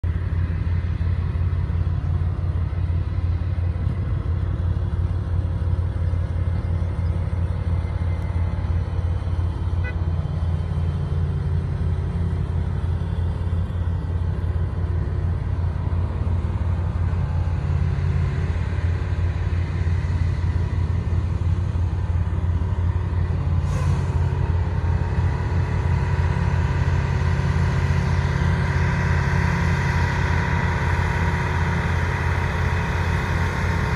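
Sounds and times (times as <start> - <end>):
diesel truck engine rumbling: 0.0 - 33.9.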